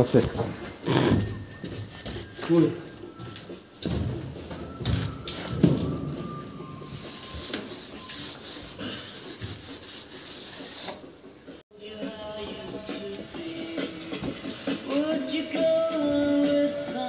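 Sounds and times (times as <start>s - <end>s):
music: 0.1s - 8.8s, 11.7s - 17.0s.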